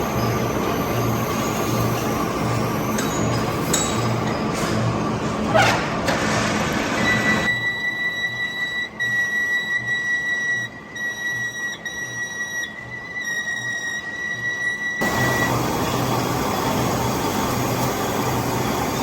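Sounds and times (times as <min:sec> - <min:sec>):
metal cutting machine squealing: 0:00.0 - 0:04.6, 0:07.5 - 0:19.0.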